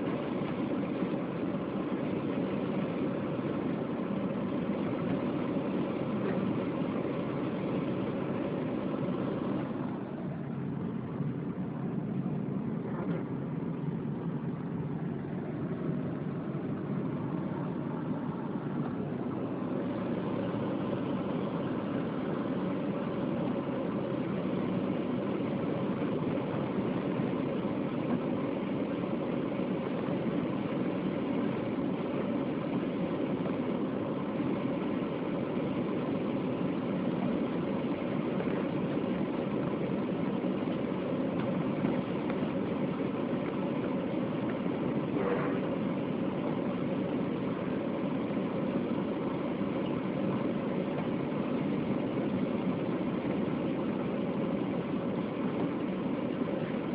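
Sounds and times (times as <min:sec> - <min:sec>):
car engine and road noise: 0:00.0 - 0:56.9.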